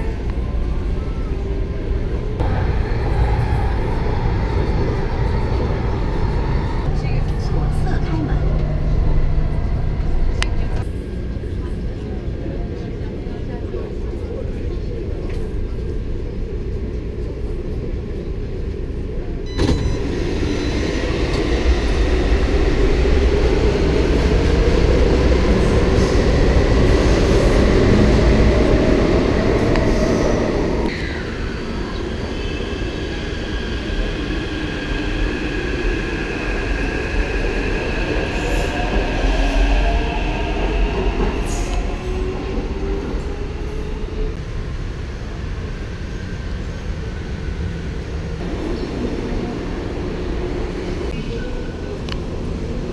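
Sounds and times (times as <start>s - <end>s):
train rumble: 0.0s - 52.9s.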